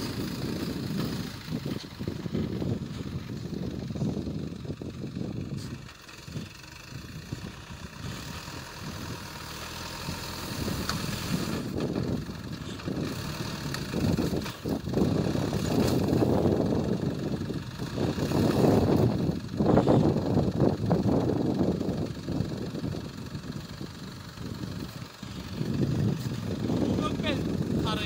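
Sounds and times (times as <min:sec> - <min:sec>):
vehicle engine rough rumble: 0:00.0 - 0:28.0.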